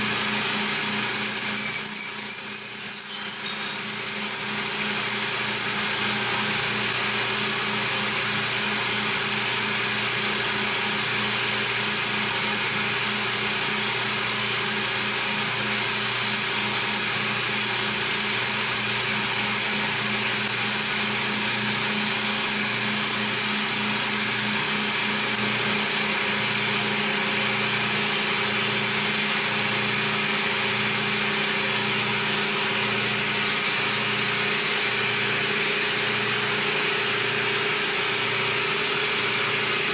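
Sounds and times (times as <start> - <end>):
milling machine cutting: 0.0 - 39.9.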